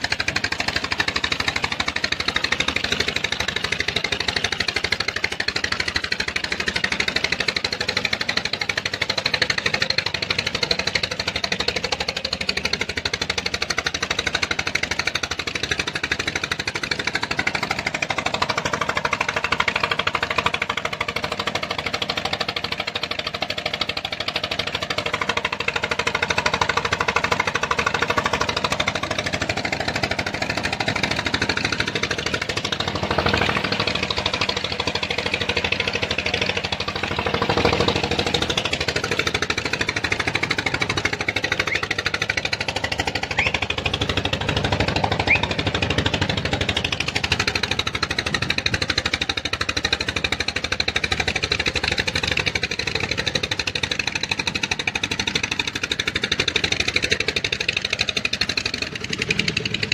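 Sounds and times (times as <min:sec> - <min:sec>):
pump engine running: 0:00.0 - 0:59.9.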